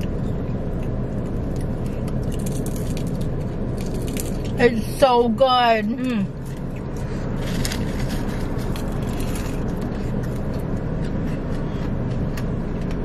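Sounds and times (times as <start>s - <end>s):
crunchy chewing: 0.0s - 4.6s, 6.3s - 13.0s
car cabin hum: 0.0s - 13.0s.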